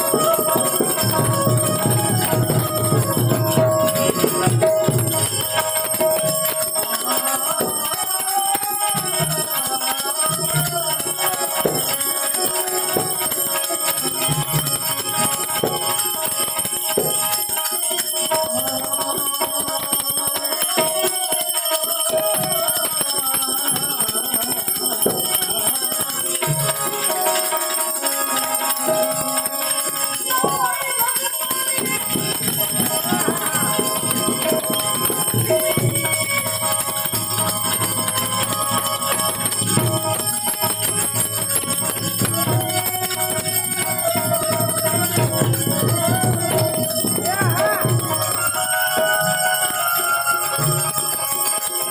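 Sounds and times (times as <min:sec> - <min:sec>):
harmonium: 0:00.0 - 0:51.9
man singing: 0:00.0 - 0:51.9
small bells jingling: 0:00.0 - 0:51.9.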